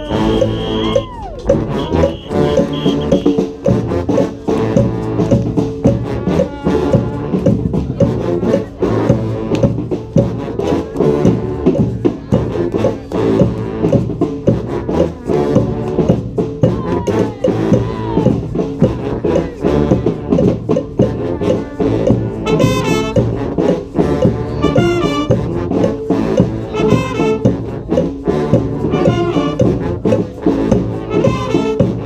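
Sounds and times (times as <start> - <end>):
brass band playing salsa: 0.0 - 32.0
drum beat: 0.0 - 32.0.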